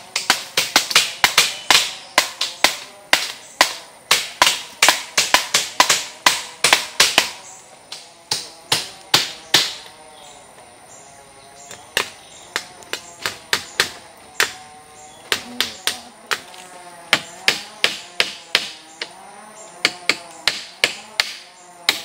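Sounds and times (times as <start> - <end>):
sharp strikes on wood: 0.0 - 9.9, 11.7 - 14.6, 15.2 - 19.2, 19.8 - 22.0.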